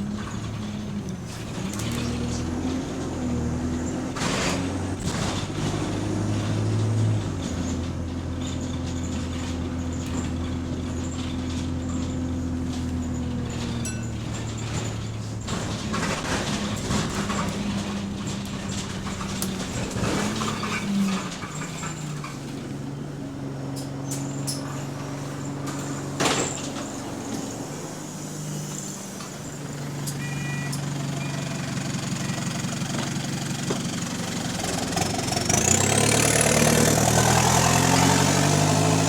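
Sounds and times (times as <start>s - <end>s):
bus body rattling: 0.0s - 39.0s
bus engine running: 0.0s - 39.0s.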